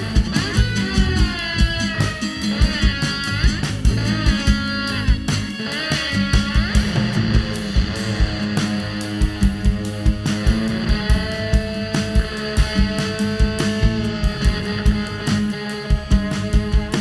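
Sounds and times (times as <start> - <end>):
drums beating: 0.0 - 17.0
live rock band playing: 0.0 - 17.0.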